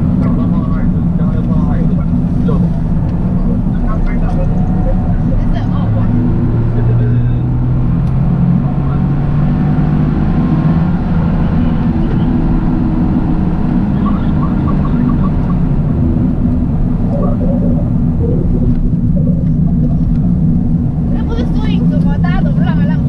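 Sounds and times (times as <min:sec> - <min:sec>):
car engine running: 0:00.0 - 0:23.0
road rumble: 0:00.0 - 0:23.0.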